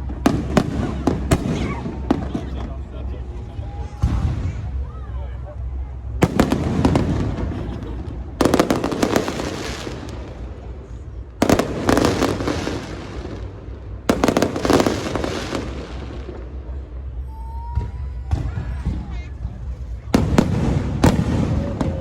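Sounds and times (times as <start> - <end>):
fireworks crackling bangs: 0.0 - 3.1, 6.0 - 17.2, 17.8 - 22.0.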